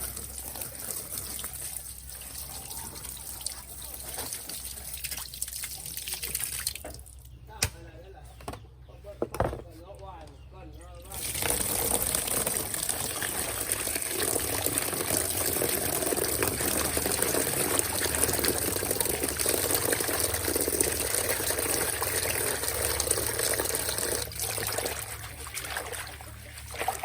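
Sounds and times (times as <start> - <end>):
running water rushing: 0.0 - 6.9, 11.1 - 27.0.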